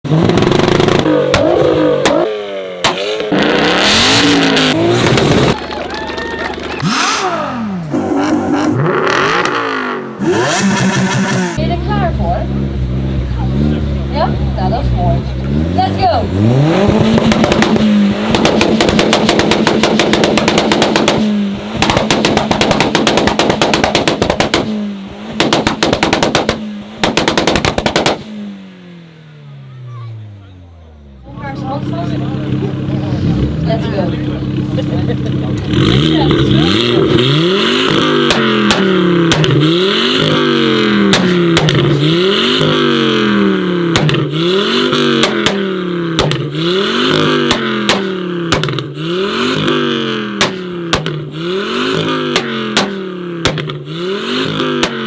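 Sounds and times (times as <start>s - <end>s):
car engines revving: 0.0s - 55.0s
exhaust bangs: 0.0s - 55.0s.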